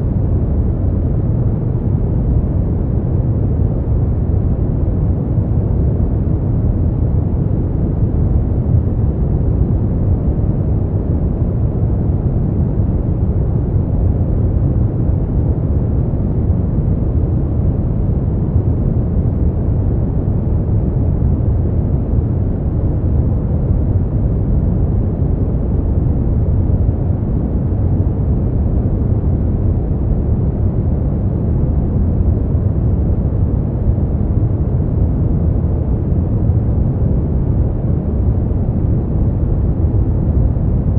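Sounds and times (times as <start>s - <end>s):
deep steady noise rumble: 0.0s - 40.9s.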